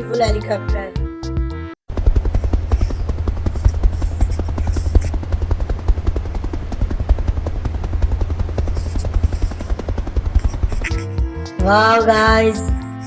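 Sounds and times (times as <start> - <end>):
helicopter rotor chop: 1.9 - 12.6.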